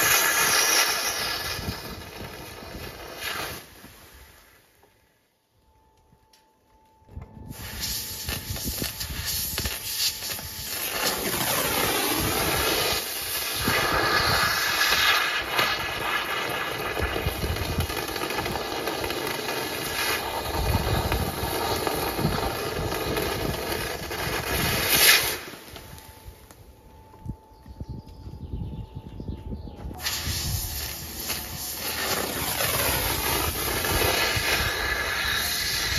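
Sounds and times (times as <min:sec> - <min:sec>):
thermal lance hissing: 0:00.0 - 0:04.7, 0:07.5 - 0:26.0, 0:30.0 - 0:35.9.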